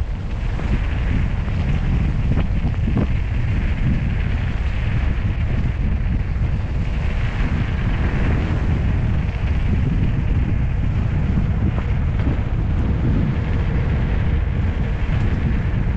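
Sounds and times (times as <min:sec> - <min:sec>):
motorcycle engine: 0:00.0 - 0:15.9
road noise: 0:00.0 - 0:15.9
wind buffeting microphone: 0:00.0 - 0:15.9.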